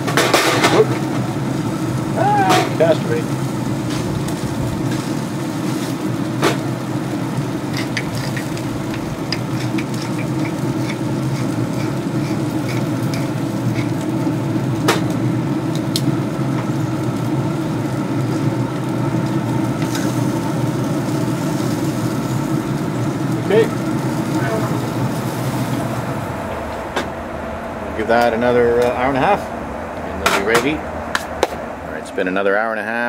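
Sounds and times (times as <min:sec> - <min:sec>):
pellet smoker humming: 0:00.0 - 0:33.0.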